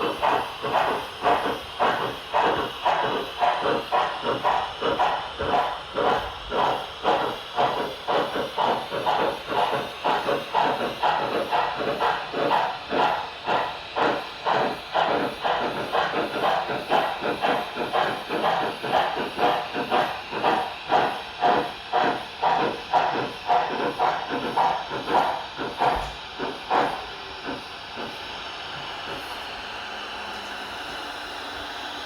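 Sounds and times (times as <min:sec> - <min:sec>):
steady steam hiss: 0:00.0 - 0:32.0
steam locomotive exhaust chuffs: 0:00.0 - 0:32.0.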